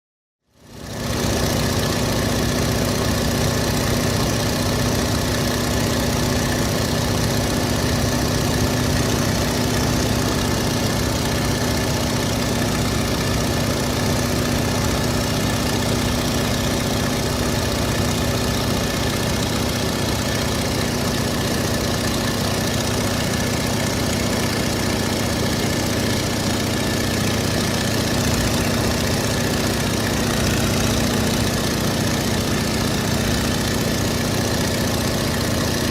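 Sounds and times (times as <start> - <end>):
propeller plane engine drone: 0.5 - 35.9
airstream rushing: 0.9 - 35.9.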